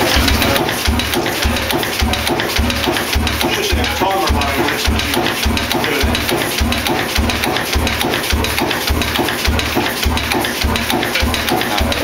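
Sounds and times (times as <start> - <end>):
oil engine low beat: 0.0 - 12.0
valve gear clatter: 0.0 - 12.0.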